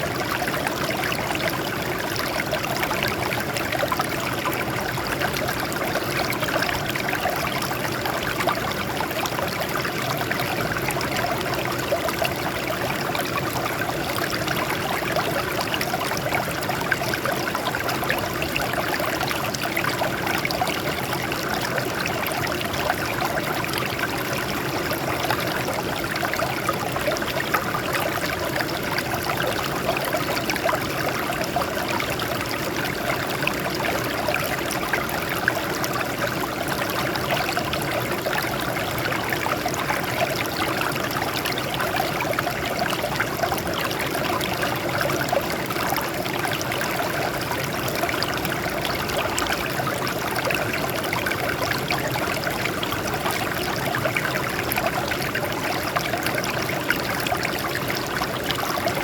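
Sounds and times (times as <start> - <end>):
stream water babbling over rocks: 0.0 - 59.0.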